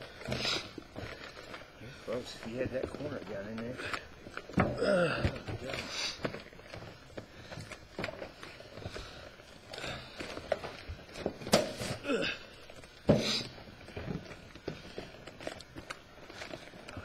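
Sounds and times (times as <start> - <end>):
plastic bladder rustling and scuffing: 0.0 - 4.6, 5.2 - 17.0.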